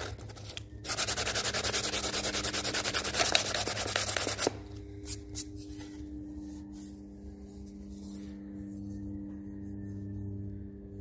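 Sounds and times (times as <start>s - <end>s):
low hum of held tones: 0.0s - 11.0s.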